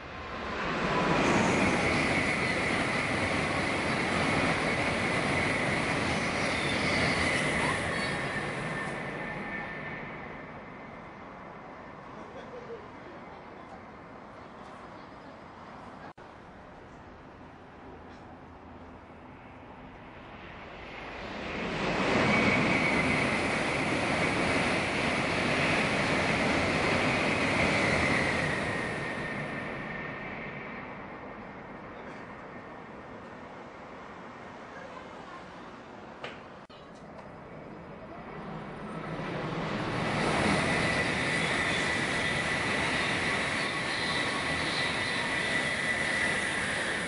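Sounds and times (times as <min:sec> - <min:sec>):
high-speed train passing: 0:00.0 - 0:47.0.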